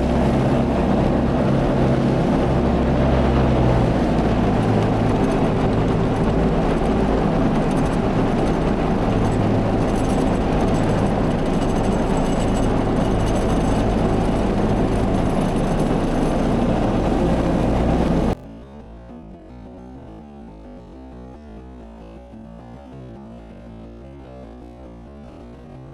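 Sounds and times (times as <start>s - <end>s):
tractor engine and mower drone: 0.0s - 25.9s.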